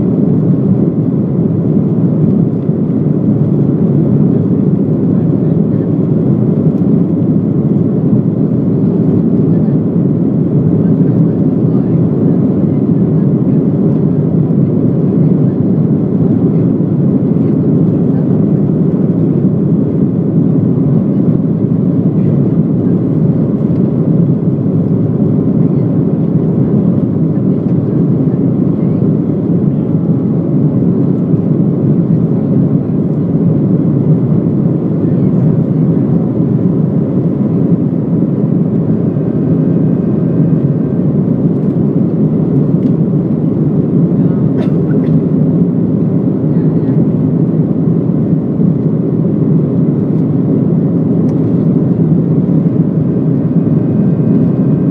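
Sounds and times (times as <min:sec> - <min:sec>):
jet engine and airflow rush: 0:00.0 - 0:54.9.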